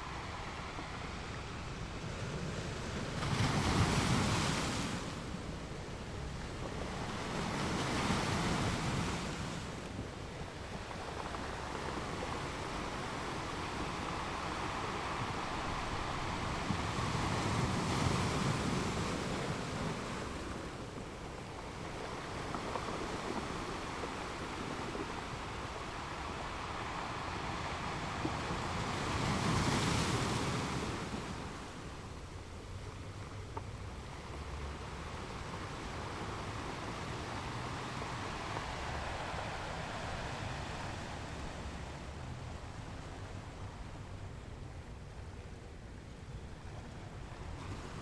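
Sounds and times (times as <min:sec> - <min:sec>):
ocean waves breaking on shore: 0:00.0 - 0:48.0.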